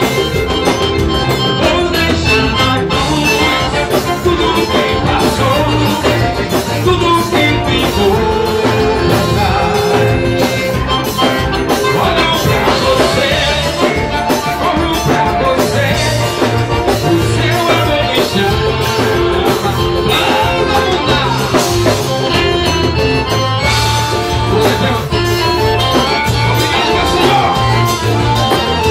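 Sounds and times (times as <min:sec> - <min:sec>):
live gospel band: 0:00.0 - 0:28.9
man singing into microphone: 0:01.2 - 0:28.9.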